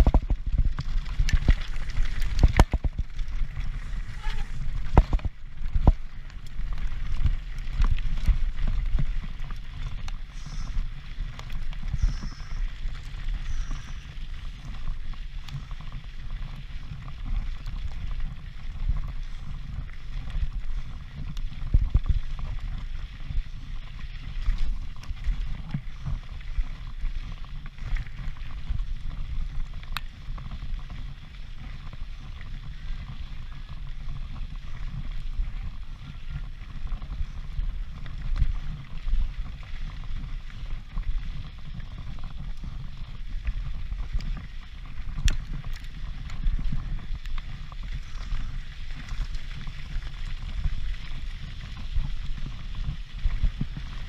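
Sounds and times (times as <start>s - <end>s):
bike rattling on rocks: 0.0s - 54.0s
wind rumble on microphone: 0.0s - 54.0s.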